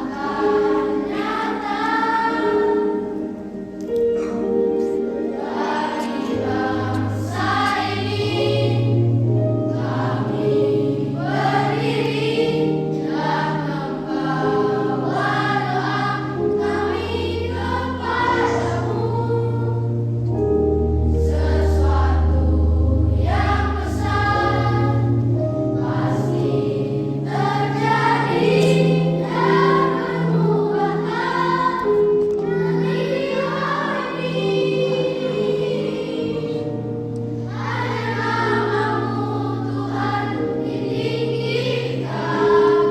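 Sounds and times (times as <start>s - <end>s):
children's choir singing: 0.0s - 42.9s.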